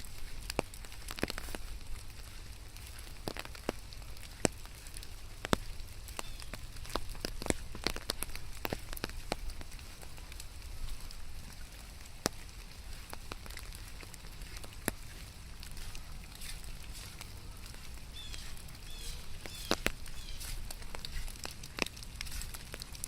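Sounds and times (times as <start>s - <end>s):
rain falling: 0.0s - 23.0s
sharp raindrops tapping: 0.0s - 23.0s.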